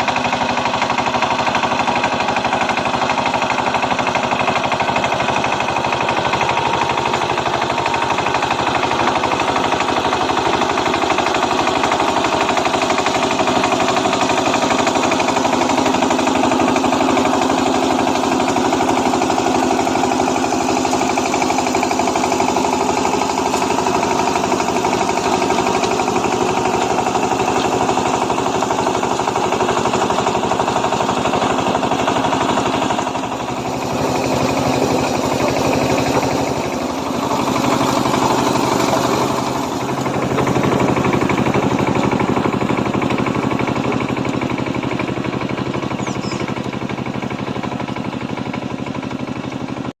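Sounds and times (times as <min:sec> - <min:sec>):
diesel engine knocking: 0:00.0 - 0:50.0.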